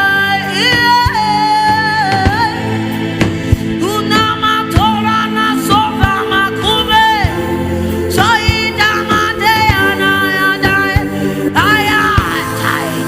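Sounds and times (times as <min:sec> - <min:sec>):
person singing: 0:00.0 - 0:13.0
sustained backing chords: 0:00.0 - 0:13.0.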